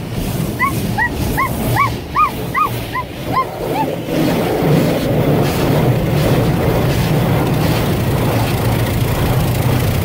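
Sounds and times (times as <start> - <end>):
car wash rushing noise: 0.0 - 10.0
low hum: 0.0 - 10.0.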